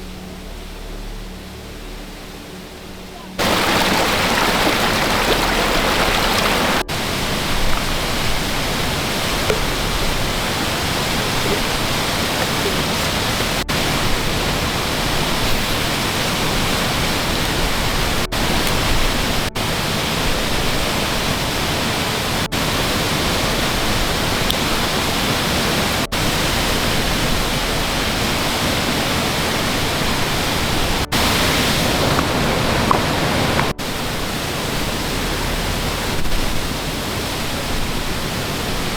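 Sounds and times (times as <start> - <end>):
waterfall rushing: 3.4 - 38.9.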